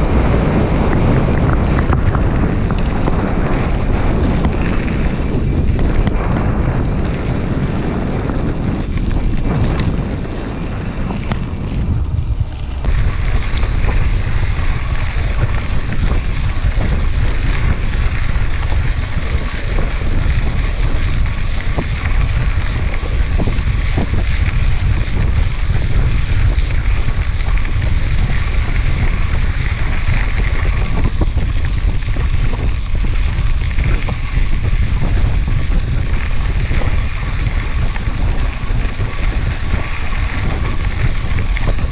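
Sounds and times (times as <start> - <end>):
bike knocks and rattles: 0.0 - 41.9
wind buffeting microphone: 0.0 - 41.9.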